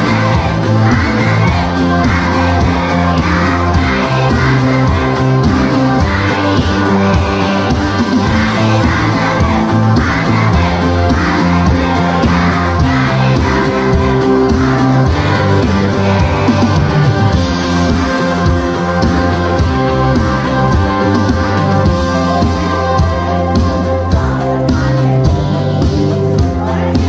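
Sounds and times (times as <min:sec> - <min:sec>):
accompaniment music with steady beat: 0:00.0 - 0:27.0
children's choir singing: 0:00.0 - 0:27.0.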